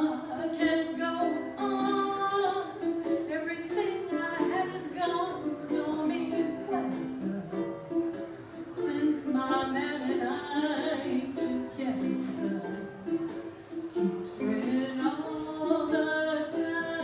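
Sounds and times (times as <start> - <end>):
person singing: 0.0 - 8.1, 8.7 - 17.0
ukulele strumming: 0.0 - 17.0.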